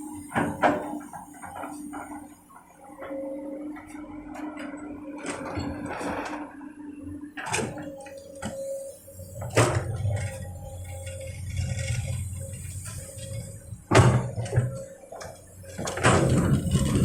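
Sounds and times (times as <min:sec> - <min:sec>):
excavator engine rumbling: 0:00.0 - 0:17.0.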